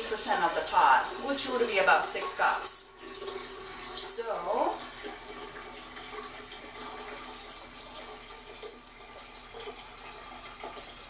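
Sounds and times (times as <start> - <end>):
water pouring into pot: 0.0 - 11.0.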